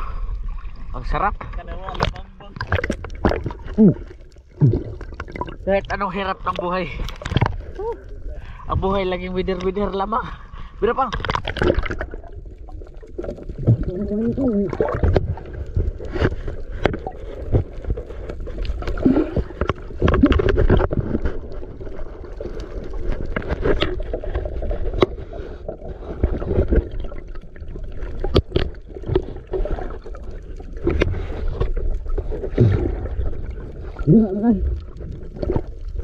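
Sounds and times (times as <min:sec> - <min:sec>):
water sloshing against hull: 0:00.0 - 0:09.8, 0:10.4 - 0:36.0.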